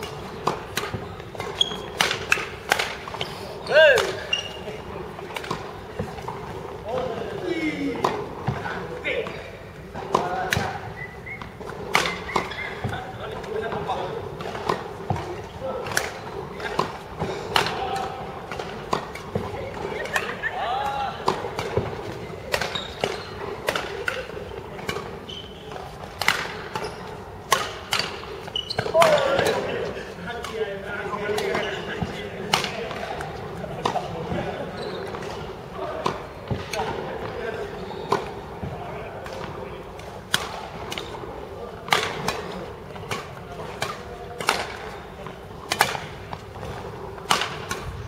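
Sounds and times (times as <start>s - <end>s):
racket hitting shuttlecock: 0.0s - 30.6s, 31.2s - 48.0s
court shoes squeaking: 0.0s - 48.0s.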